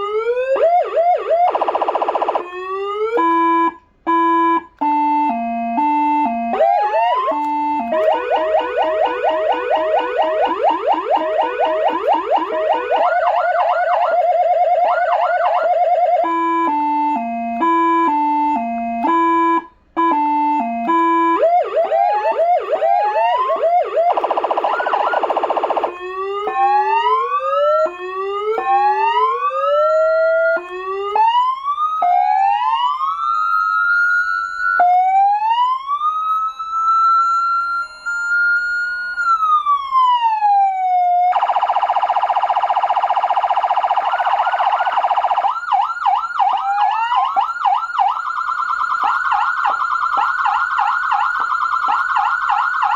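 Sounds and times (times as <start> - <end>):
electronic siren changing tones: 0.0 - 52.9.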